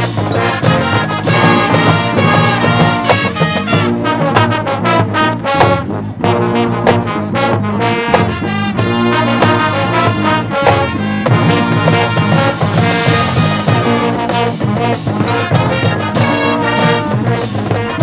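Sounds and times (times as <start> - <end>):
sharp drumline hits: 0.0 - 5.9, 8.0 - 18.0
brass chords: 0.0 - 18.0.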